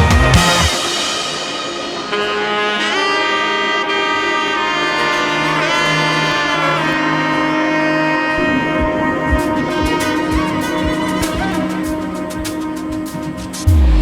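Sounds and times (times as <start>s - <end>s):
saxophone-like horn music: 0.0s - 14.0s.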